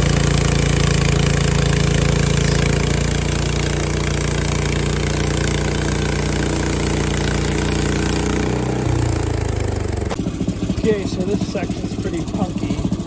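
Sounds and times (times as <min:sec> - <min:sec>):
sawmill gas engine running: 0:00.0 - 0:13.0.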